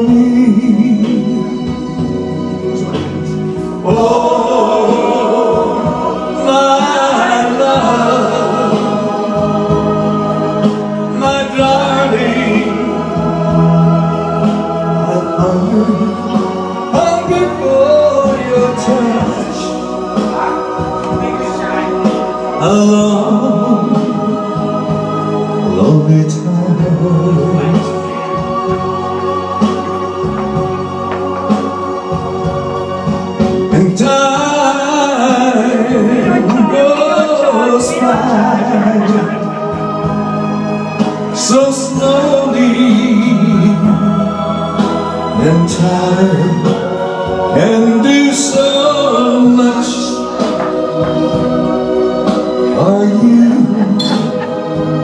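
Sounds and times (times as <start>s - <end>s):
man singing into a microphone: 0.0s - 2.0s, 2.8s - 28.8s, 33.6s - 39.9s, 41.1s - 50.7s, 52.6s - 54.6s
amplified accompaniment with held chords: 0.0s - 55.0s.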